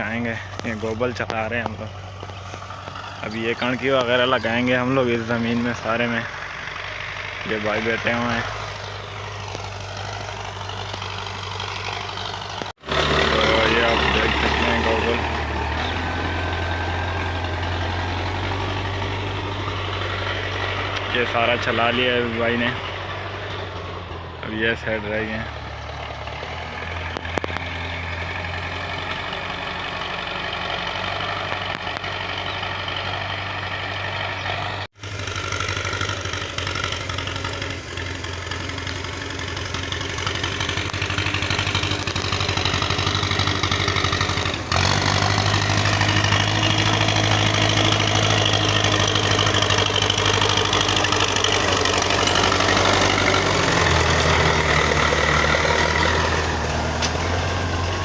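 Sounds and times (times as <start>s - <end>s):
tractor engine droning: 0.0s - 58.0s.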